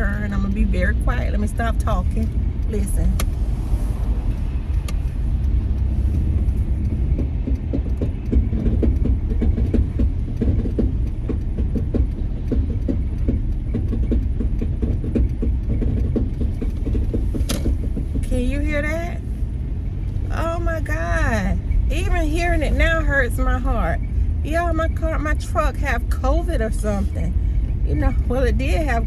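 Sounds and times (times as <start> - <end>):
drivetrain popping: 0.0 - 29.0
engine and road rumble: 0.0 - 29.0.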